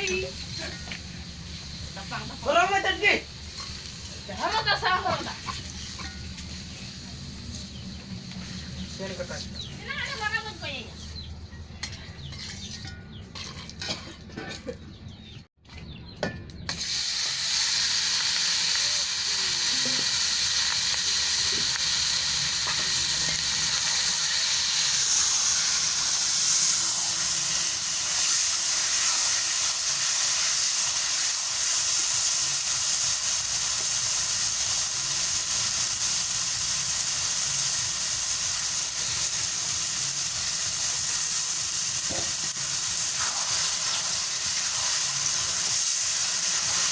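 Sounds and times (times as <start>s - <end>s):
food sizzling in hot oil: 0.0s - 11.2s, 16.7s - 46.9s.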